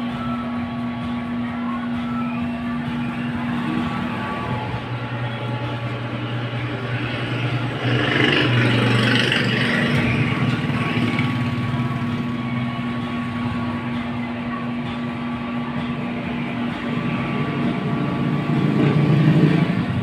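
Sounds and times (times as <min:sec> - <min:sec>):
amplifier humming: 0:00.0 - 0:20.0
whirring rushing noise: 0:00.0 - 0:20.0.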